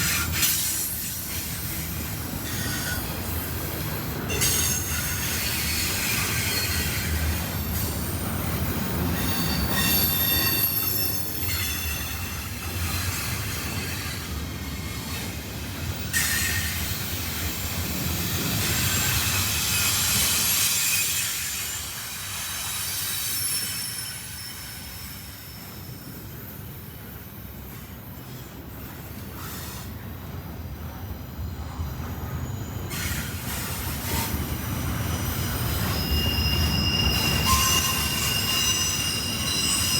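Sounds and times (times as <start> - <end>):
freight train rolling past: 0.0 - 39.9
steel wheels squealing on rails: 0.0 - 39.9.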